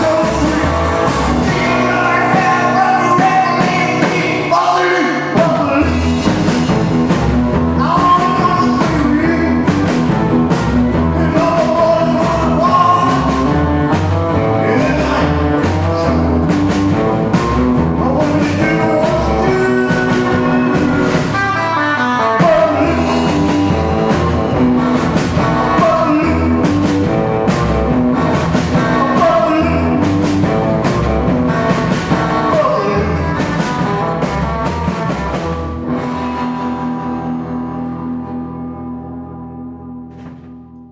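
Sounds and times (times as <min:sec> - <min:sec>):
rockabilly band with singing: 0:00.0 - 0:39.6.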